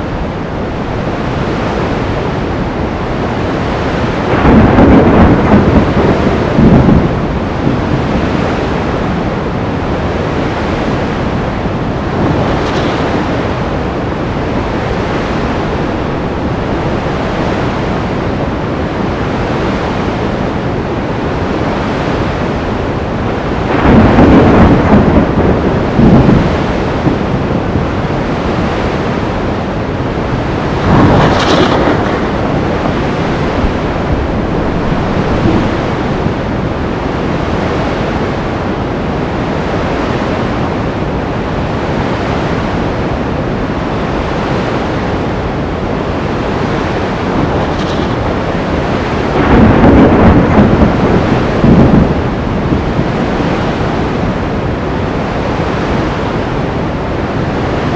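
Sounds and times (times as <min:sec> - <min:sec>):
surf roaring: 0:00.0 - 0:57.9
wind: 0:00.0 - 0:57.9.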